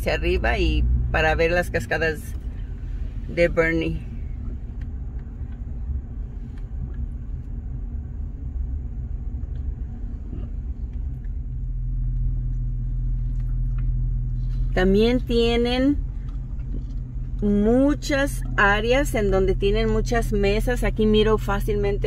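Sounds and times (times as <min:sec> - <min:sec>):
car engine and tyres rumbling: 0:00.0 - 0:22.0
low hum: 0:00.0 - 0:22.0.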